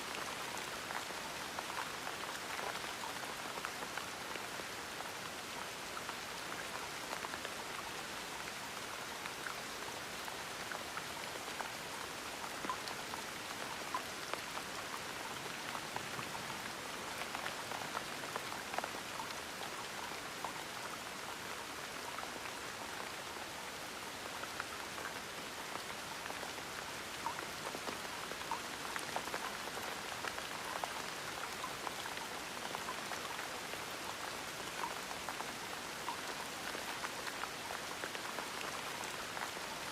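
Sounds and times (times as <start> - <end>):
gentle steady rain: 0.0 - 39.9
raindrops pattering: 0.0 - 39.9.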